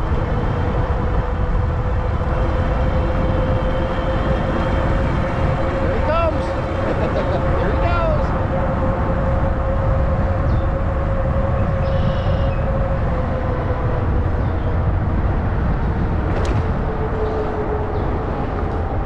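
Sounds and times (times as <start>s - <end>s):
e-bike drive whine: 0.0s - 19.0s
wind rumbling on microphone: 0.0s - 19.0s.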